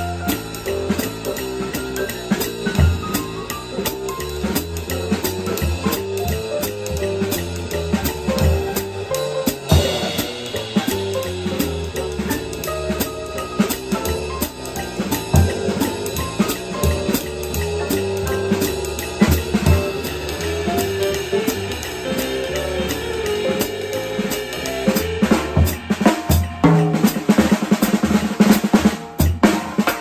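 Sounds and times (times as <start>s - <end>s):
walking bass line: 0.0s - 26.8s
big band backing track: 0.0s - 30.0s
drum kit swing on ride cymbal: 0.0s - 30.0s
drum strokes on toms and snare: 0.0s - 30.0s.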